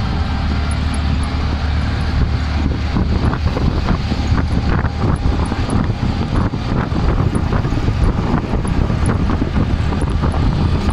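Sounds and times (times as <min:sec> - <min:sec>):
road noise: 0:00.0 - 0:10.9
vehicle engine rumble: 0:00.0 - 0:10.9
wind buffeting microphone: 0:00.0 - 0:10.9.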